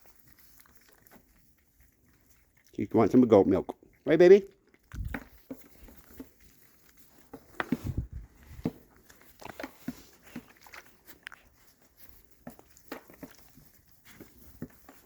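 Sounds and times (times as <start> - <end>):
animals feeding taps and scuffs: 0.0 - 15.0.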